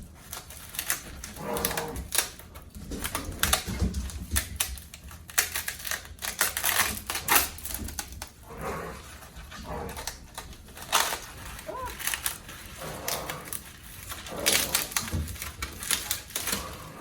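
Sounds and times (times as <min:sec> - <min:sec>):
dried gourd skin crackling: 0:00.0 - 0:17.0.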